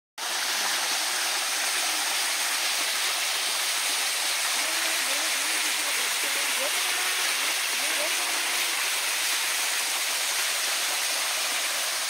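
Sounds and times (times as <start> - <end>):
small waterfall rushing: 0.2 - 12.0.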